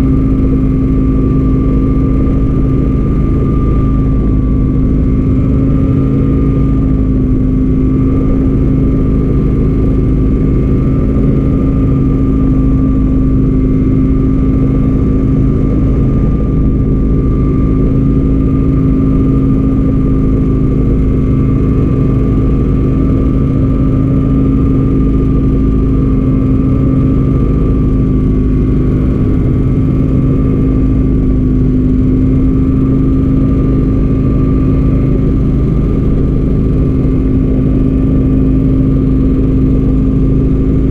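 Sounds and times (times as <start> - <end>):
engine droning: 0.0 - 40.9.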